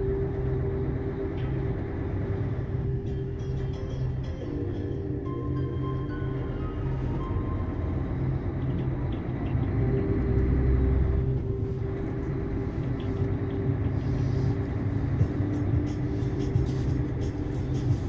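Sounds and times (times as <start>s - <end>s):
truck engine rumbling: 0.0s - 18.0s.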